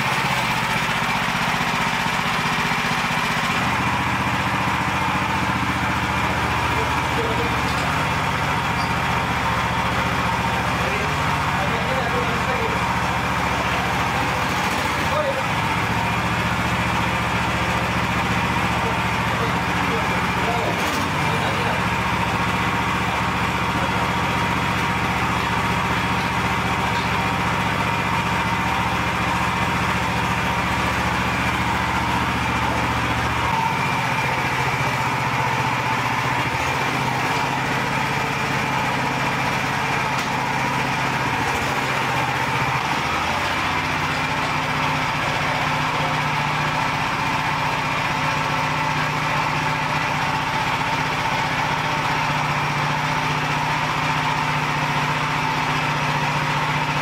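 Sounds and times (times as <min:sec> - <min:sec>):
petrol engine running: 0:00.0 - 0:57.0.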